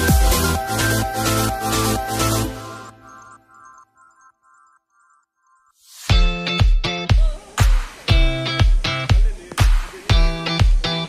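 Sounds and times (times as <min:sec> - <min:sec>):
background music with steady beat: 0:00.0 - 0:04.0, 0:05.9 - 0:11.0.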